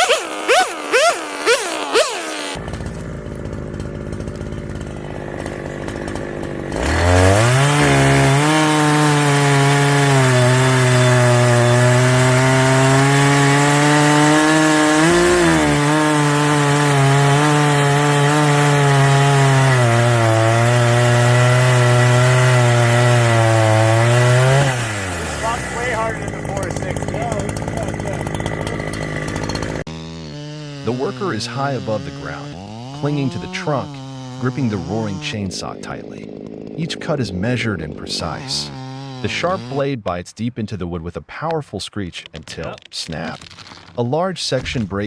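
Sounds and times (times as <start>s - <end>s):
chainsaw sawing through wood: 0.0s - 40.0s, 42.5s - 44.0s.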